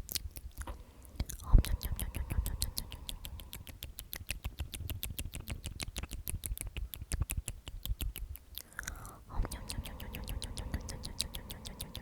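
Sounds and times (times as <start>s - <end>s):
rapid mouth clicks: 0.0s - 12.0s.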